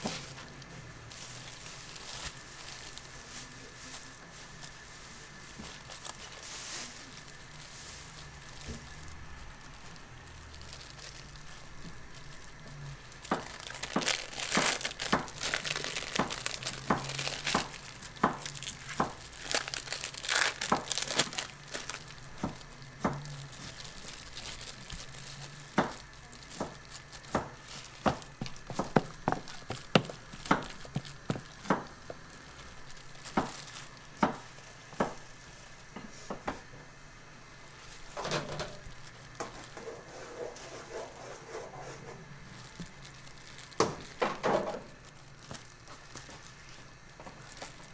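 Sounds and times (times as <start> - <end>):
plastic gloves and foil crinkling: 0.0 - 36.7, 37.6 - 47.9.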